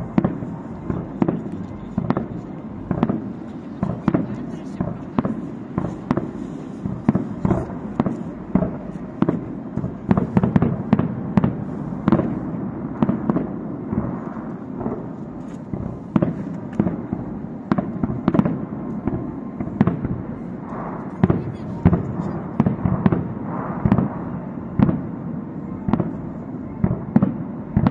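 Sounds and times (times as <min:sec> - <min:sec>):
fireworks booming and cracking: 0:00.0 - 0:27.9.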